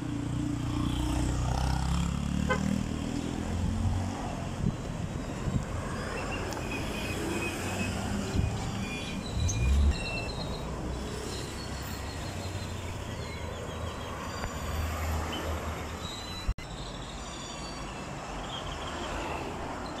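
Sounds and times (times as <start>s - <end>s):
cars and trucks driving past: 0.1s - 20.0s.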